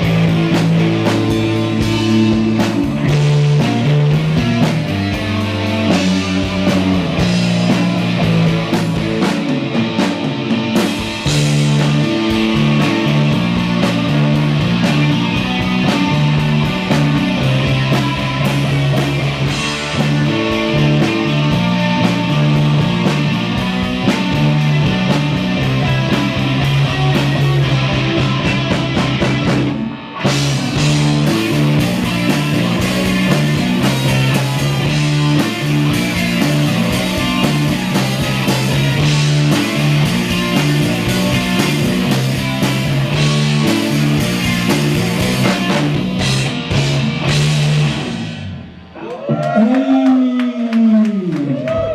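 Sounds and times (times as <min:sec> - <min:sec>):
live rock band: 0:00.0 - 0:51.9.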